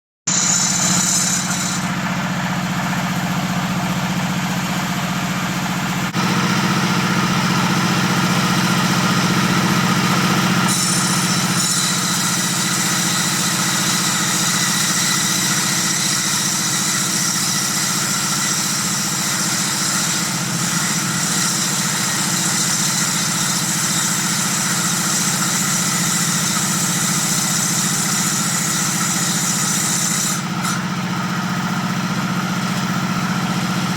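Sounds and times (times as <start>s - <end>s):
table saw humming: 0.3s - 33.9s.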